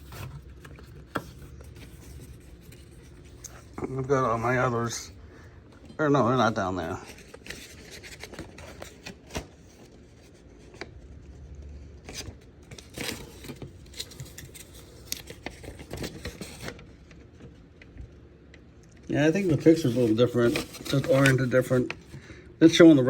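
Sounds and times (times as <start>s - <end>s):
paper rustling: 0.0s - 5.0s, 6.2s - 11.0s, 12.1s - 18.0s, 19.1s - 22.3s.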